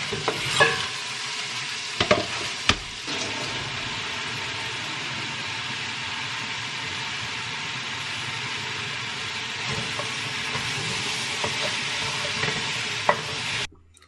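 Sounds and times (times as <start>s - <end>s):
food sizzling in a pan: 0.0s - 13.7s.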